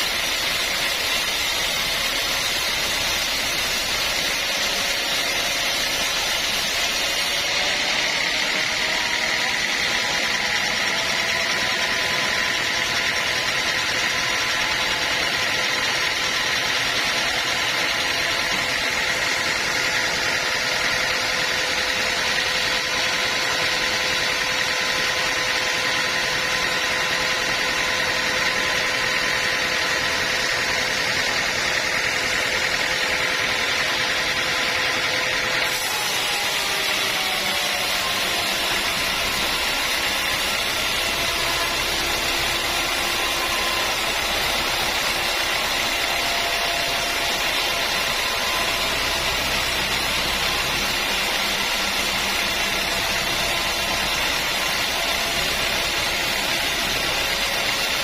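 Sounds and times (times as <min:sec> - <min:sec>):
sawmill machinery whine: 0:00.0 - 0:58.0.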